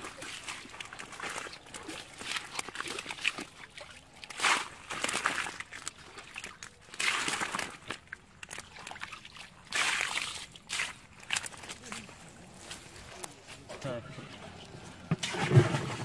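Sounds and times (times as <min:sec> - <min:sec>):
pond water splashing: 0:00.0 - 0:16.0.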